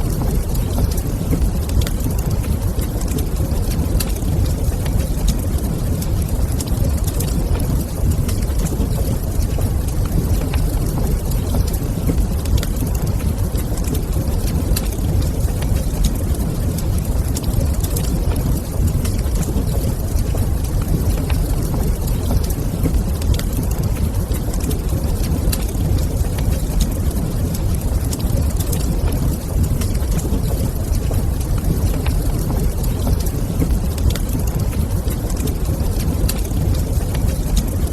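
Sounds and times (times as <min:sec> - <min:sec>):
log fire crackling: 0:00.0 - 0:37.9
low fire rumble: 0:00.0 - 0:37.9.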